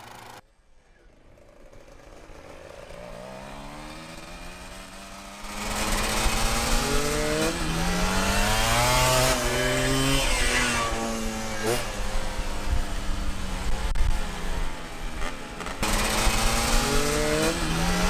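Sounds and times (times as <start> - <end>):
motorcycle engine accelerating: 0.0 - 0.4, 1.0 - 18.0.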